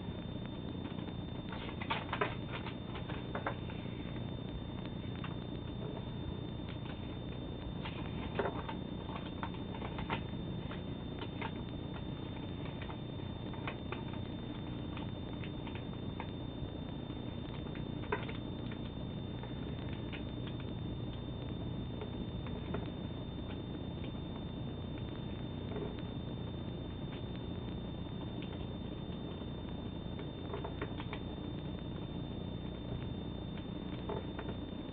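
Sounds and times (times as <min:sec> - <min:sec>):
background hum: 0:00.0 - 0:34.9.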